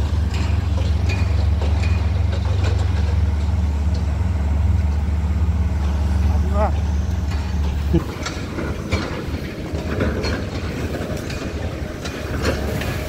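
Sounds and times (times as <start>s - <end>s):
metallic clanks and knocks: 0.0s - 5.0s, 6.7s - 13.0s
heavy engine rumble: 0.0s - 13.0s.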